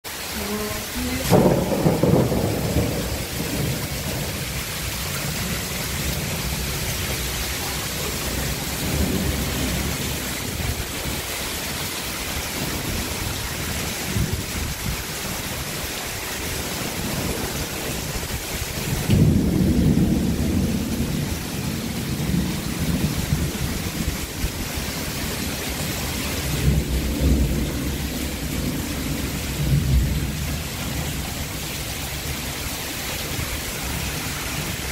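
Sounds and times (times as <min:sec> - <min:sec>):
heavy rain pouring: 0:00.0 - 0:34.9
thunder rumbling: 0:00.6 - 0:11.7, 0:12.4 - 0:34.9.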